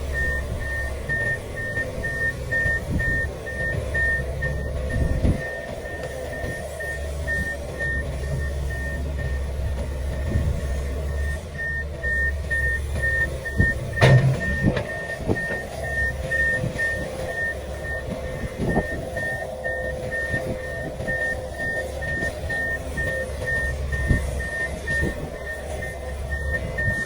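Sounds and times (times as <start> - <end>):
excavator diesel engine running: 0.0 - 27.0
travel alarm beeping: 0.0 - 27.0.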